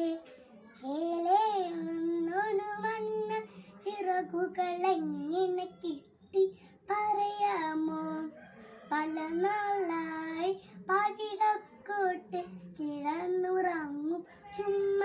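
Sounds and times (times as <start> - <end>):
girl singing: 0.0 - 8.3, 8.9 - 15.0.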